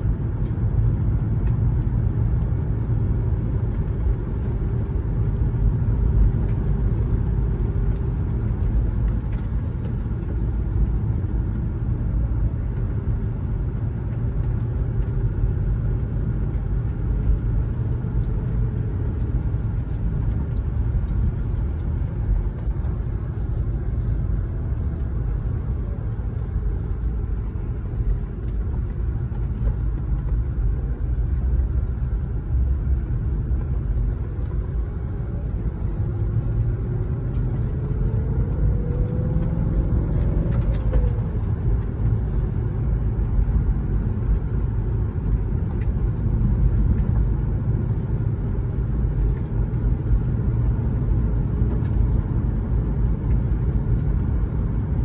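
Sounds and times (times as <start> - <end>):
car engine rumbling while driving: 0.0 - 55.0.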